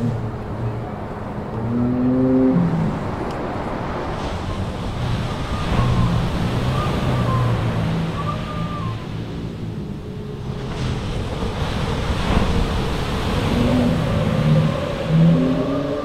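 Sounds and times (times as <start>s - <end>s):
wind and surf roaring: 0.0s - 16.0s.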